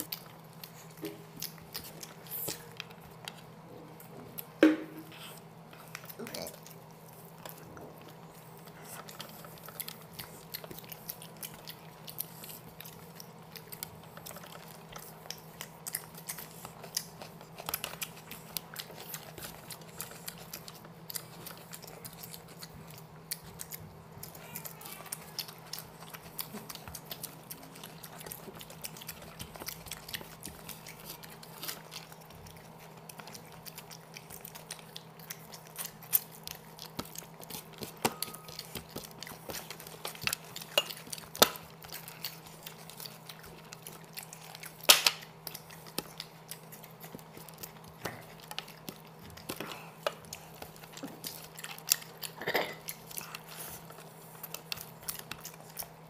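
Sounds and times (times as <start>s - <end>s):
people chewing: 0.0s - 56.0s.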